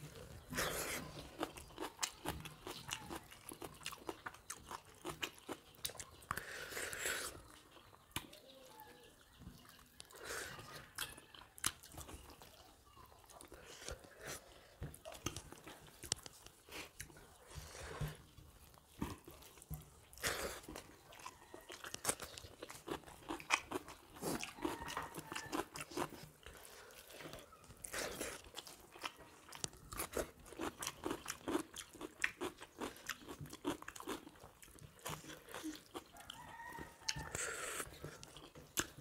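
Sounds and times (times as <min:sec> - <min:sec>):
people chewing wetly: 0:00.0 - 0:39.0.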